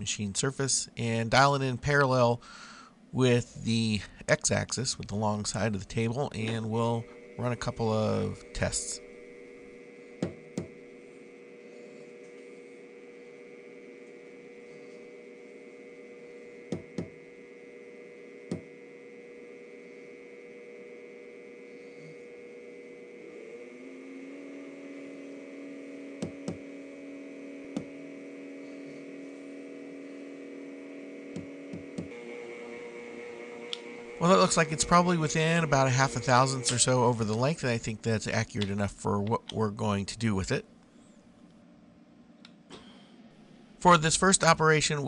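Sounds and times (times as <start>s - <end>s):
machine hum: 0.0s - 45.0s.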